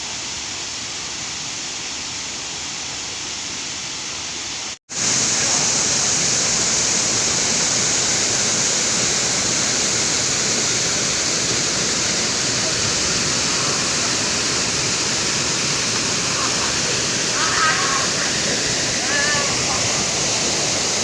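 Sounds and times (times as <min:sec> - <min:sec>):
waterfall roaring: 0:00.2 - 0:21.0.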